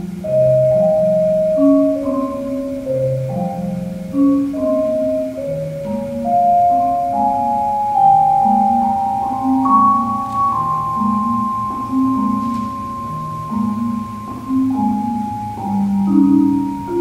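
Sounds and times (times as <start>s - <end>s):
marimbas playing: 0.0s - 17.0s.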